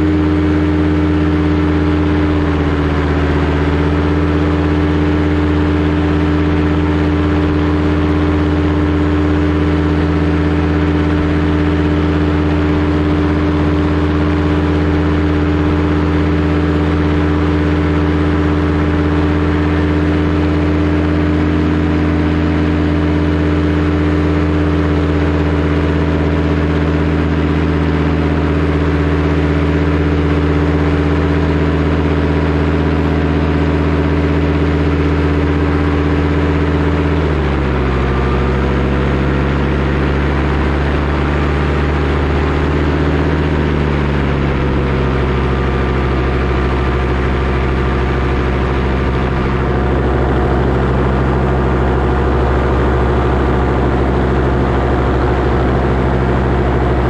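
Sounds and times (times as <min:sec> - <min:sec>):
paramotor engine and propeller: 0:00.0 - 0:57.0.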